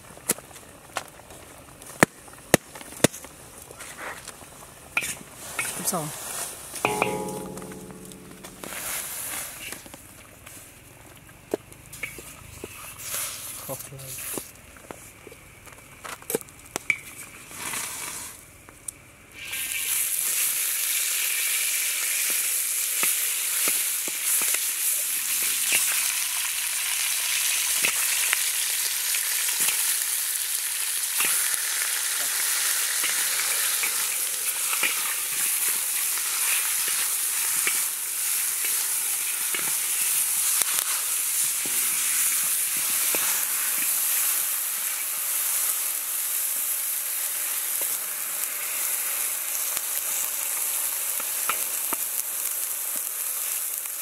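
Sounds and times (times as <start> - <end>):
meat sizzling in a wok: 4.4 - 9.9, 11.8 - 14.6, 16.9 - 18.5, 19.2 - 54.0.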